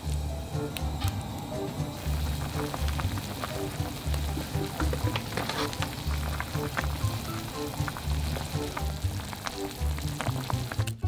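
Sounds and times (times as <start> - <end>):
soft background music: 0.0 - 11.0
thick curry bubbling in a pan: 1.9 - 11.0.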